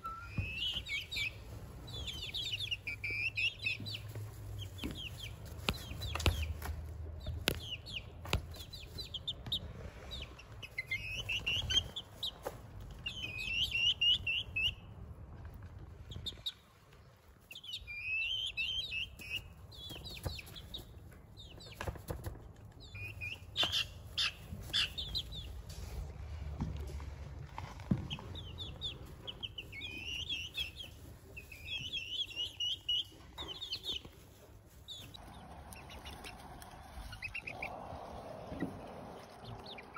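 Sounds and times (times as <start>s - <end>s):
chicks cheeping: 0.0s - 15.1s, 15.8s - 16.8s, 17.4s - 26.1s, 27.6s - 39.9s.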